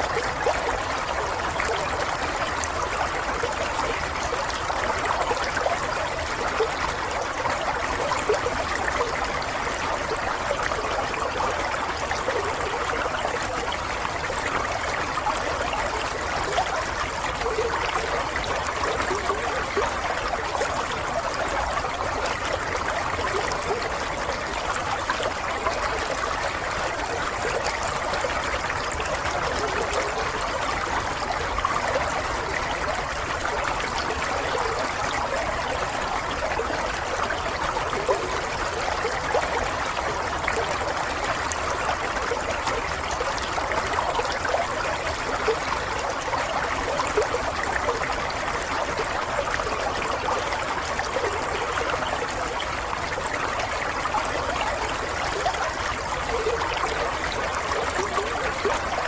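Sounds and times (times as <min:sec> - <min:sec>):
water trickling and gurgling: 0:00.0 - 0:59.0.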